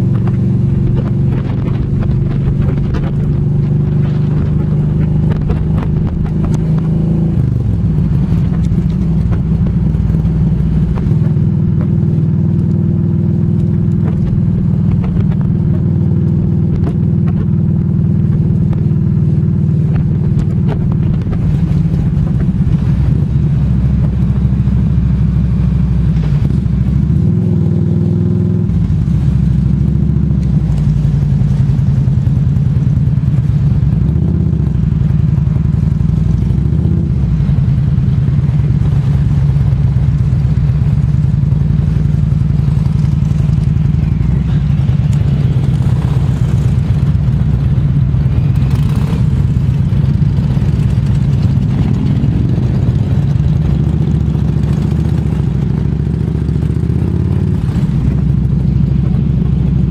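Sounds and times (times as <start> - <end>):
motorcycle trike engine running: 0.0 - 59.9.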